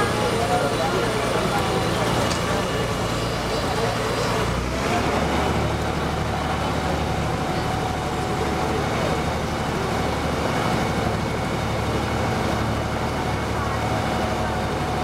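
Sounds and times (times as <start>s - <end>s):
ferry engine droning: 0.0s - 15.0s.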